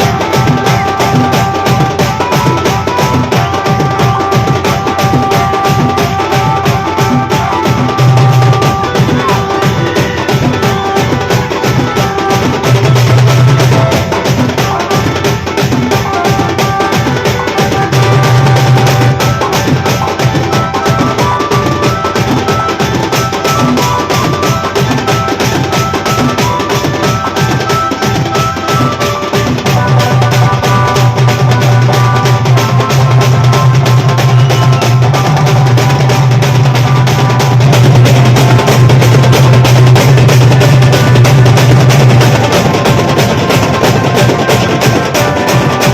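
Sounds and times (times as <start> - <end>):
fast dense drumming: 0.0 - 45.9
held melody line: 0.0 - 45.9.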